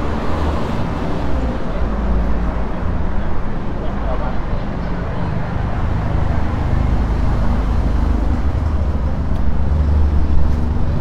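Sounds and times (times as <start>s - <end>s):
city street traffic: 0.0s - 11.0s
vehicle engine humming nearby: 0.0s - 11.0s.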